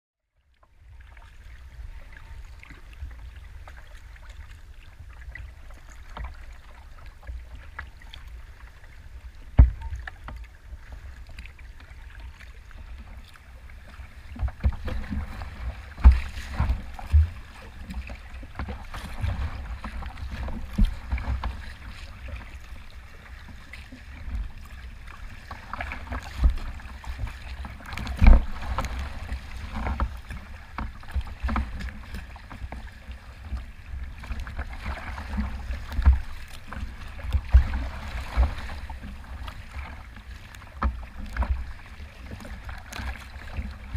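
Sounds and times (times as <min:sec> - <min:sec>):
water rushing and splashing: 0:00.7 - 0:43.9
waves slapping boat bow: 0:00.7 - 0:43.9.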